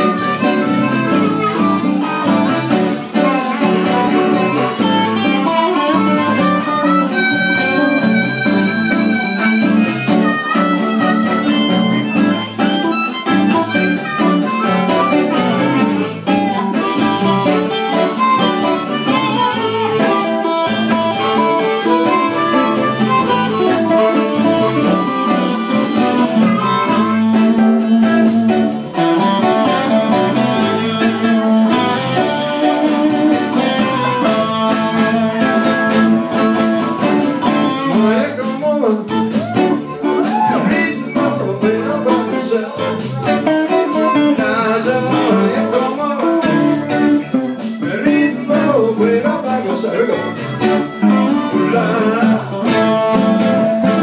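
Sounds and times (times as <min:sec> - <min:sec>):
drums: 0:00.0 - 0:54.0
electric guitars: 0:00.0 - 0:54.0
harmonica playing lead: 0:00.0 - 0:54.0.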